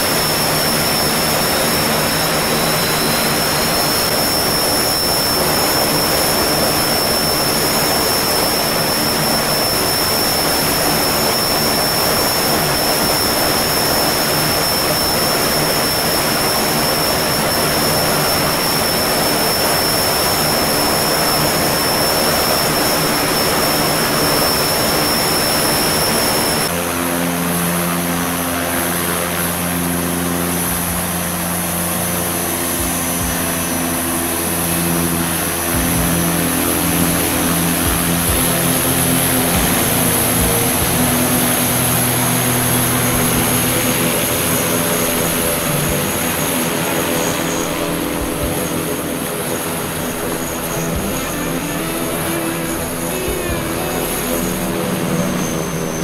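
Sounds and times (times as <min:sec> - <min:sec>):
deep propeller drone: 0:00.0 - 0:56.0
high turbine whine: 0:00.0 - 0:56.0
turboprop engines running: 0:00.0 - 0:56.0.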